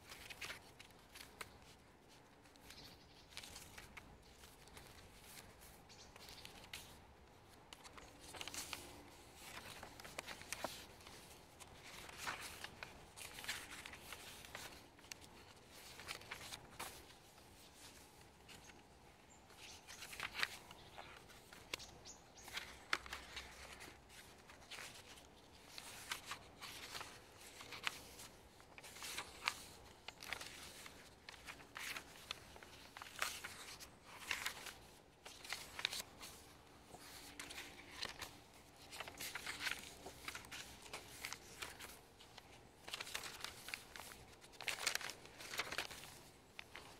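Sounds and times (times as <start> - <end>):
paper pages turning: 0.0 - 18.8, 19.5 - 46.9.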